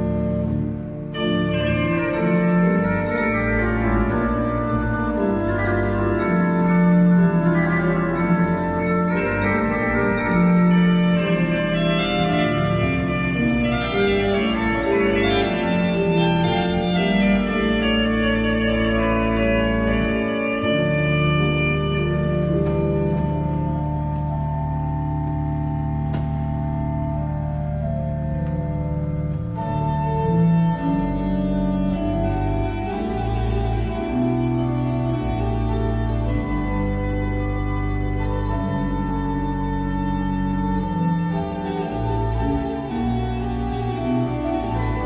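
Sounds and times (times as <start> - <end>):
low pedal bass notes: 0.0 - 45.0
pipe organ chords: 0.0 - 45.0.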